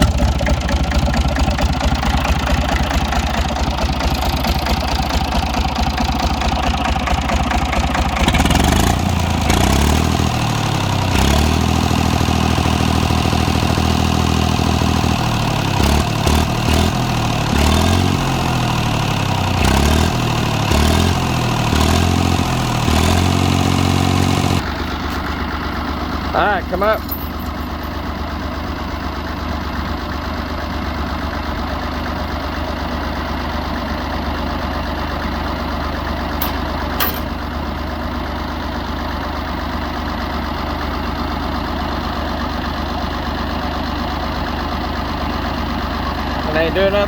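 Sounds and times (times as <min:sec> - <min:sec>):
tractor engine idling and revving: 0:00.0 - 0:47.0.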